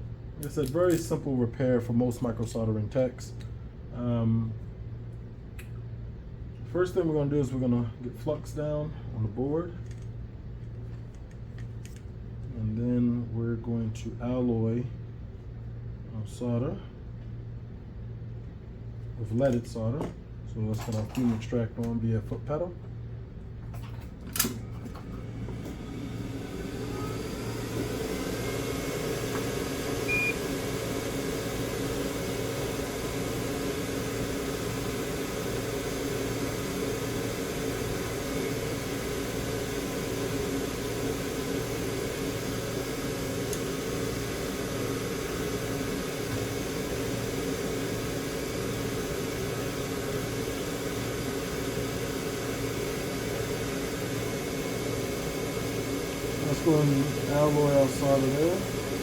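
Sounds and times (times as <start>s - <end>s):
extractor fan humming: 0.0s - 59.0s.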